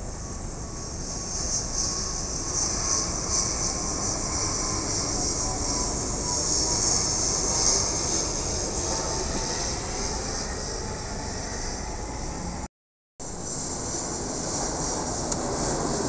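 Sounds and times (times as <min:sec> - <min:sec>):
turboprop airliner passing overhead: 0:00.0 - 0:16.0.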